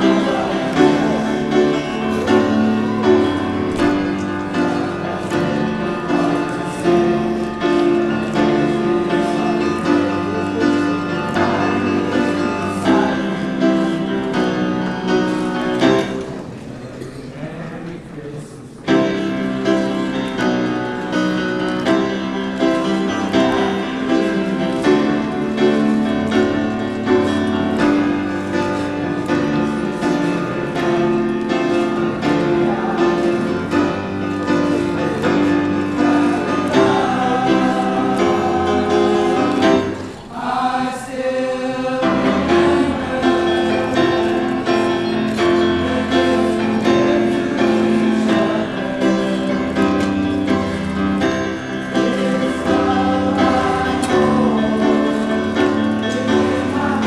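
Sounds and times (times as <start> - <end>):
men's choir singing in harmony: 0.0 - 16.5, 18.9 - 57.0.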